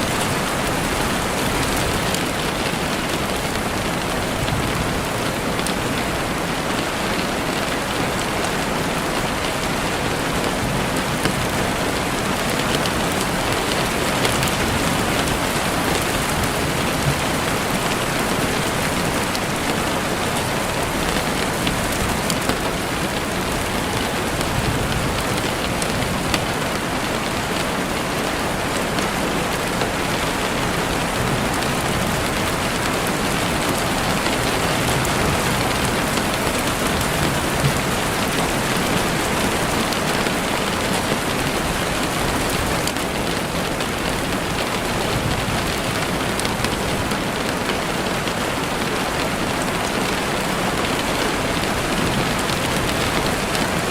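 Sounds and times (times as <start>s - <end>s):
rain falling through trees: 0.0s - 53.9s.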